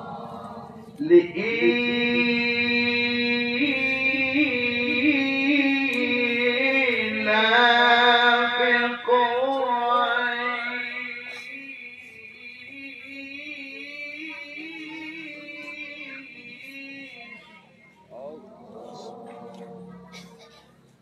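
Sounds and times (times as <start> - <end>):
man reciting melodically: 0.0 - 20.4.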